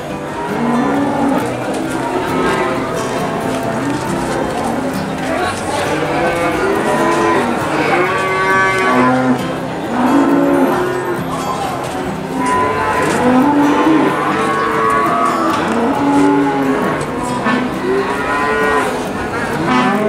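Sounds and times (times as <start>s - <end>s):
cattle mooing: 0.2s - 11.2s, 12.3s - 20.0s.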